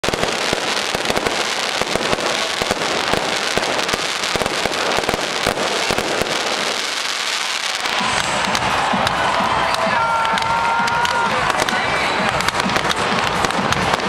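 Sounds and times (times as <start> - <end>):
fireworks crackling hiss: 0.0 - 14.0
fireworks cracks and bangs: 0.0 - 14.0.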